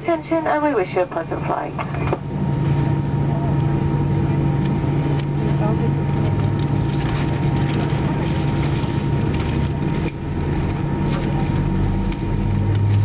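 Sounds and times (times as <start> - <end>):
aircraft engines humming: 0.0 - 13.0
constant whining tones: 0.0 - 13.0.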